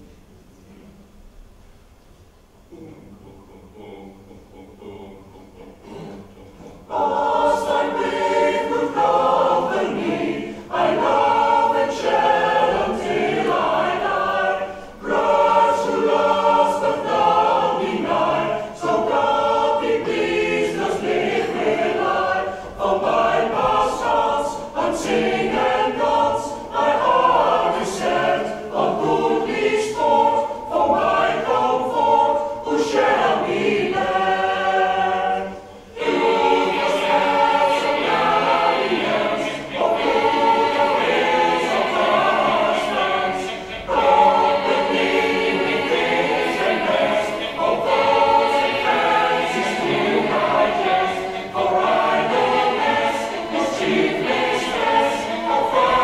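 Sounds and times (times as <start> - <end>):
mixed choir singing: 2.7 - 56.0.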